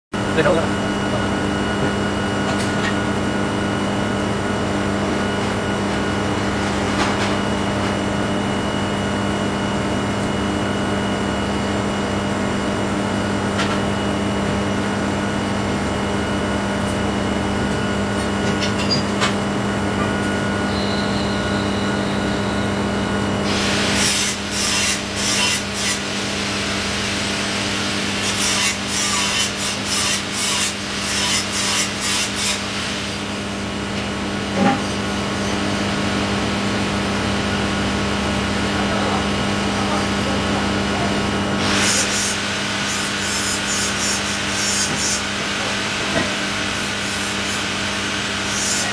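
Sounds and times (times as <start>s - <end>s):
welding arc hum: 0.2s - 48.9s.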